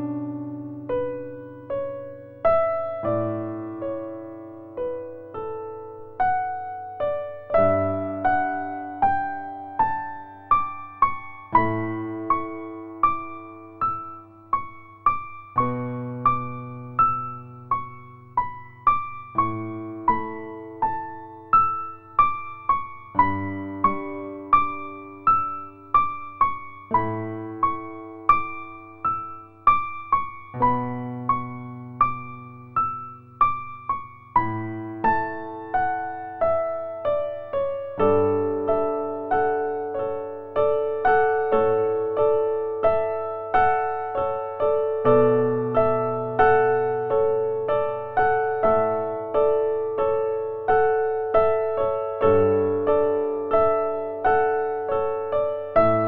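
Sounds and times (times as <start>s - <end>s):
soft electric piano melody: 0.0s - 56.0s.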